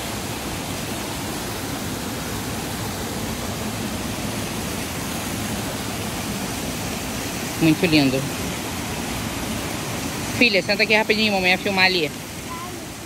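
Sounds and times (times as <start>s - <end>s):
small waterfall pouring: 0.0s - 13.0s.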